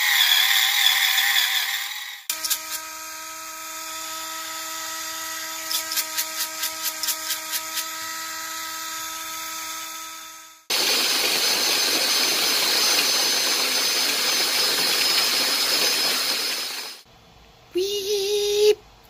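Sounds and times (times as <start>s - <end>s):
electric grinder motor whine: 0.0s - 17.1s.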